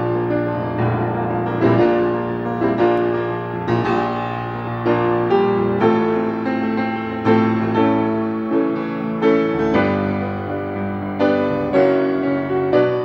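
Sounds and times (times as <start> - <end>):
background piano music: 0.0 - 13.0.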